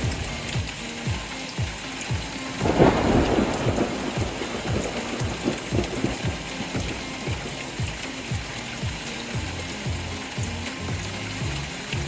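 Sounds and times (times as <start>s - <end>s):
low thumping beat: 0.0s - 12.0s
storm-like rushing hiss: 0.0s - 12.0s.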